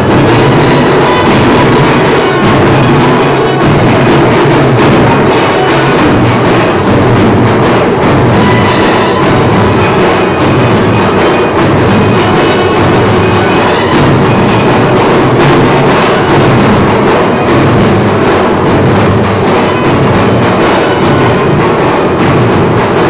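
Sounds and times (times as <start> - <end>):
loud music with steady drumming: 0.0 - 23.0.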